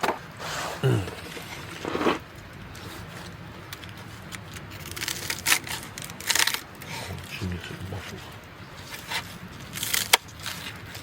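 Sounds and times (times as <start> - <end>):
rustling handling noises: 0.0 - 11.0.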